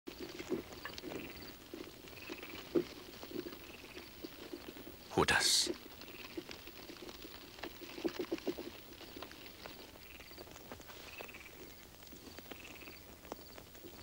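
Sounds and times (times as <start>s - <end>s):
crickets chirping: 0.1s - 14.0s.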